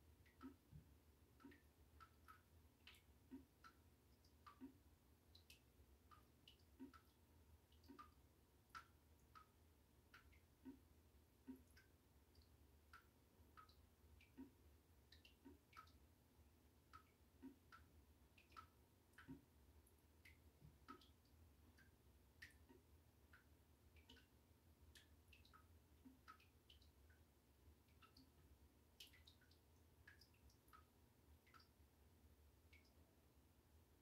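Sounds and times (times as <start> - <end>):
water dripping into bathwater: 0.0 - 34.0.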